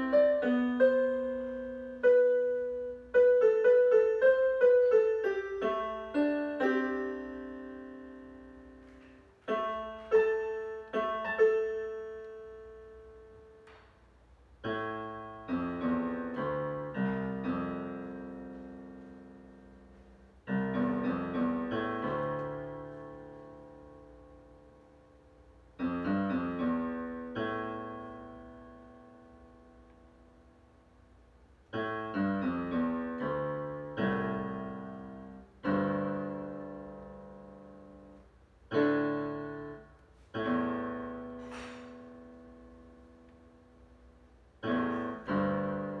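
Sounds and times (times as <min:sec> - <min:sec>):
solo piano playing: 0:00.0 - 0:46.0.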